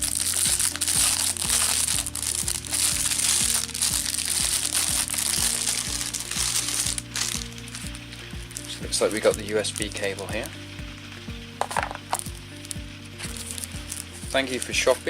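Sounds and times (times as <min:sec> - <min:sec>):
plastic bag crinkling: 0:00.0 - 0:10.6, 0:11.6 - 0:15.0
music with thumping beat: 0:00.0 - 0:15.0.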